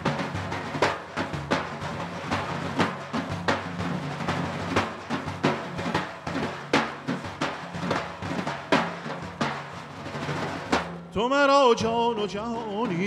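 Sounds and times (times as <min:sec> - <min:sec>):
frame drums in fast rhythm: 0:00.0 - 0:13.0.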